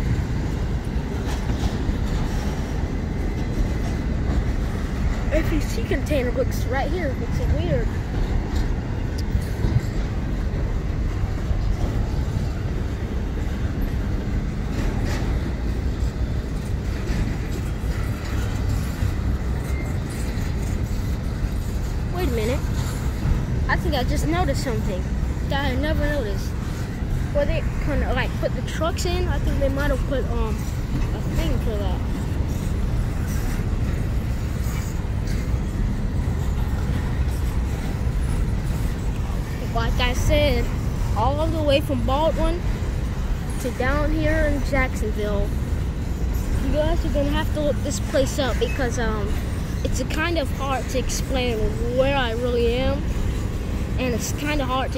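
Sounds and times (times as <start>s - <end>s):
freight train rumbling on rails: 0.0s - 54.9s.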